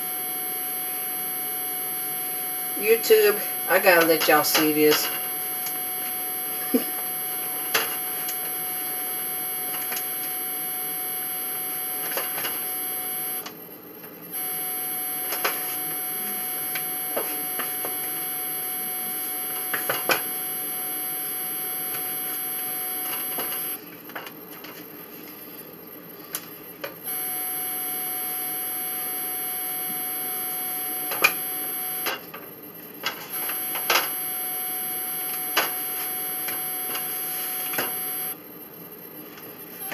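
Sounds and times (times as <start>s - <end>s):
high electrical whine: 0.0s - 13.6s, 14.3s - 23.8s, 26.8s - 38.4s.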